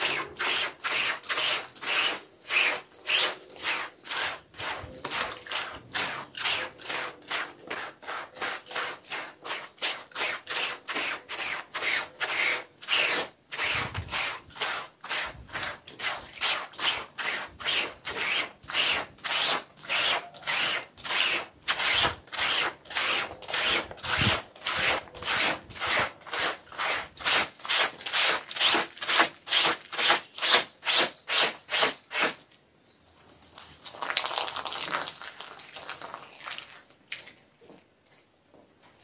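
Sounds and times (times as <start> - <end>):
brush scrubbing wet carpet: 0.0 - 32.4.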